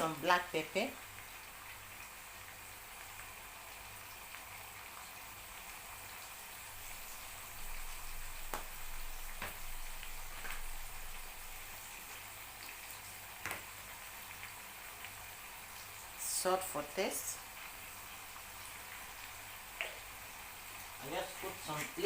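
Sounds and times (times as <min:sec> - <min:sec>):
sauce sizzling in oil: 0:00.0 - 0:22.0.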